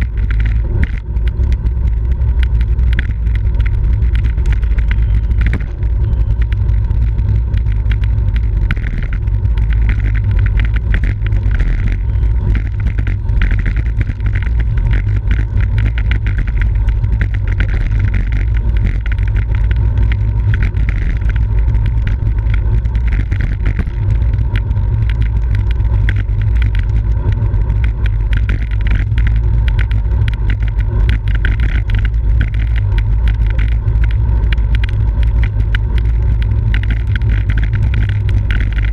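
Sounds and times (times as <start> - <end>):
small clicks and rattles: 0.0 - 38.9.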